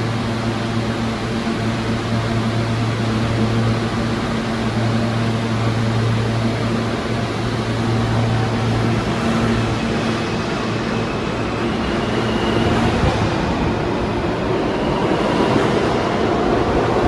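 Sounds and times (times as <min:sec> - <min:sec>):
constant rushing noise: 0:00.0 - 0:17.0.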